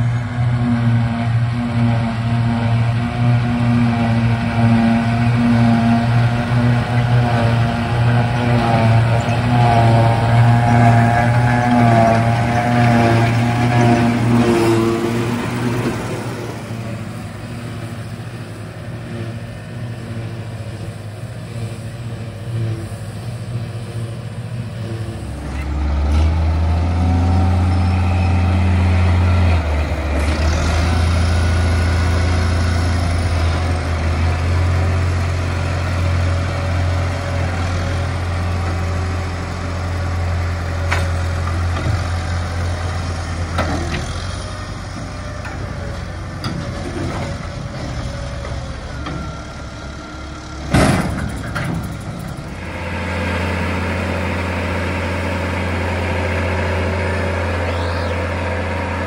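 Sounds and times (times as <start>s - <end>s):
tractor diesel engine running: 0.0s - 59.0s
wheel loader engine hum: 0.0s - 59.0s.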